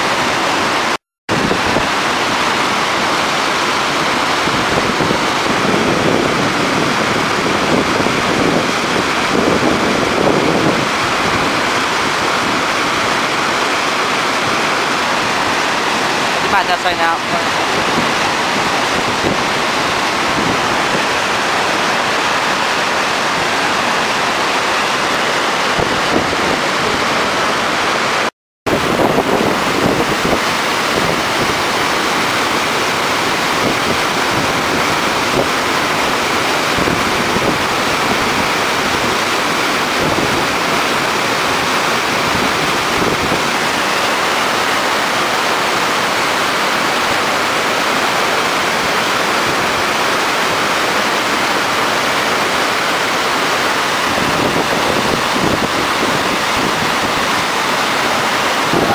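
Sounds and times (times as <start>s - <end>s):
white water rushing over weir: 0.0s - 58.9s.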